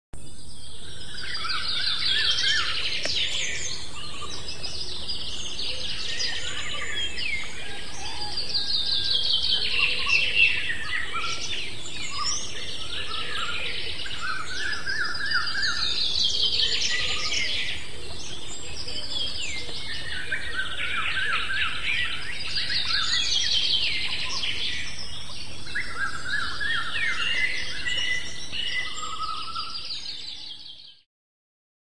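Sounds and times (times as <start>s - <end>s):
birds singing trills: 0.2s - 31.1s.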